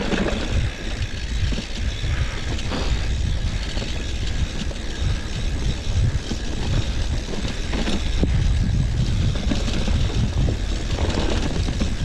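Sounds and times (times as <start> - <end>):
riding rumble: 0.0 - 12.0
wind buffeting microphone: 0.0 - 12.0.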